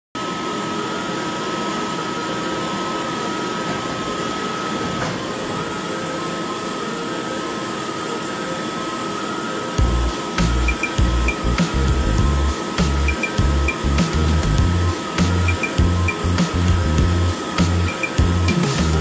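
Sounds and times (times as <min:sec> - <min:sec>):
constant high whine: 0:00.2 - 0:19.0
higher machine whine: 0:00.2 - 0:19.0
lathe mechanical whirr: 0:00.2 - 0:19.0.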